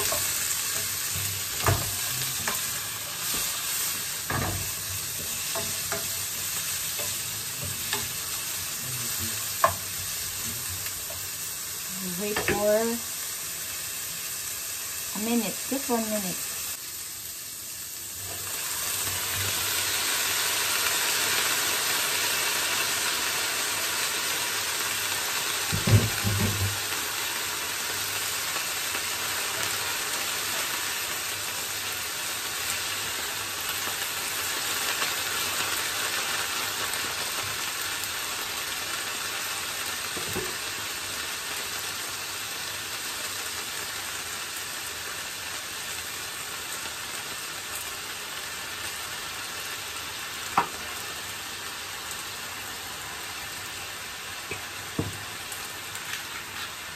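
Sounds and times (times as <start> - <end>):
vegetables sizzling in frying pan: 0.0 - 56.9.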